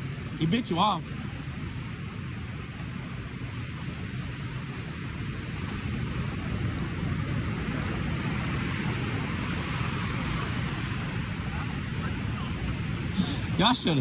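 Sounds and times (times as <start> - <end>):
ocean surf washing on beach: 0.0 - 14.0
wind rumbling on microphone: 0.0 - 14.0.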